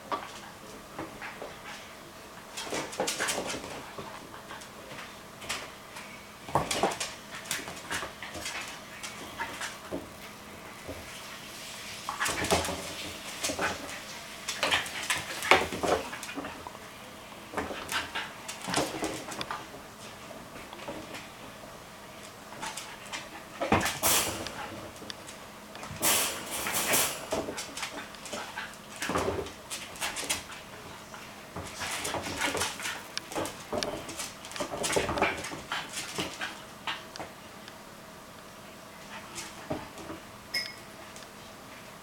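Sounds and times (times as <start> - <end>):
puppy scuffling: 0.1 - 37.5.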